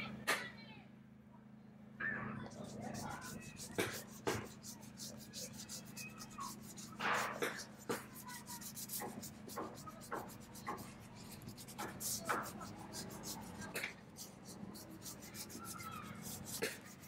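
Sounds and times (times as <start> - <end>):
bristle brush scrubbing wood: 2.4 - 17.0.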